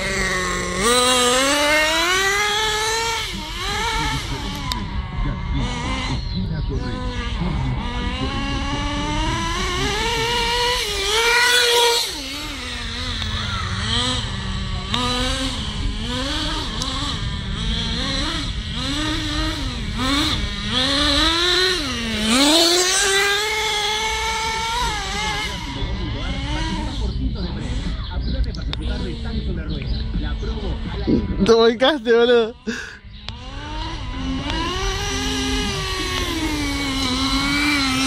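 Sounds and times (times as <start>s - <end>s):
small engine revving: 0.0s - 38.0s.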